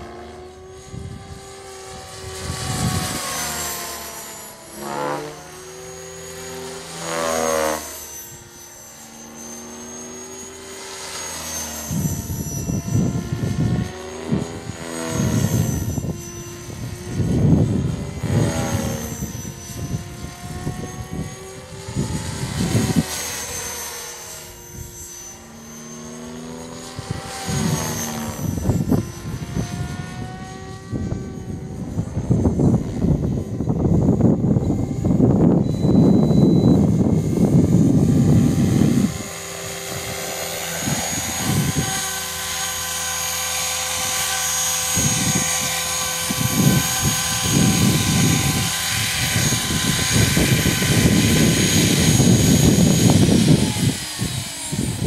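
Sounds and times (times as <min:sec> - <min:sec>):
rc helicopter motor whine: 0:00.0 - 0:55.0
wind buffeting microphone: 0:00.7 - 0:04.8, 0:11.8 - 0:23.7, 0:26.7 - 0:55.0.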